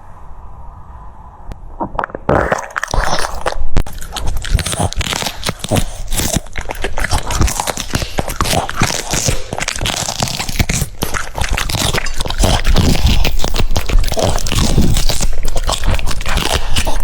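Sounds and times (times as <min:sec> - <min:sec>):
dog chewing crunchy food: 0:02.2 - 0:17.0.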